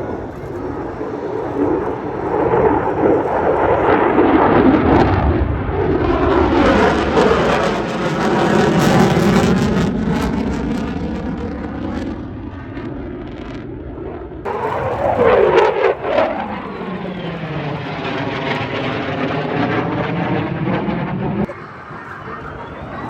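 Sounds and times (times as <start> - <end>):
aircraft flying past: 0.0 - 22.9.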